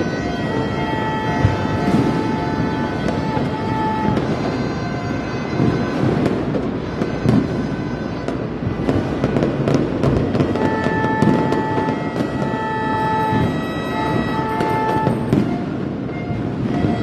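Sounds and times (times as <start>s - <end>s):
held horn-like tone: 0.0s - 9.2s, 10.2s - 17.0s
fireworks and firecrackers banging: 0.0s - 17.0s.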